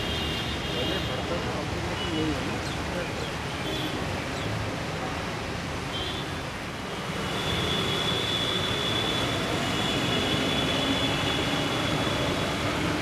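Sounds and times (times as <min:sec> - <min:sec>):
floodwater rushing: 0:00.0 - 0:13.0
traffic: 0:00.0 - 0:13.0.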